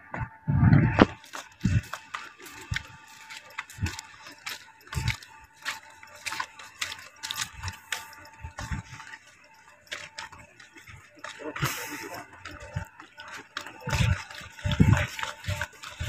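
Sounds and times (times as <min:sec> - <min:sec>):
footsteps on paved path: 0:00.1 - 0:16.0.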